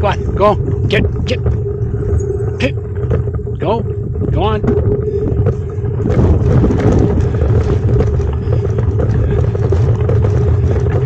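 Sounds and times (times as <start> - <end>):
bicycle rolling noise: 0.0 - 11.0
constant hum: 0.0 - 11.0
wind rumbling on microphone: 0.0 - 11.0.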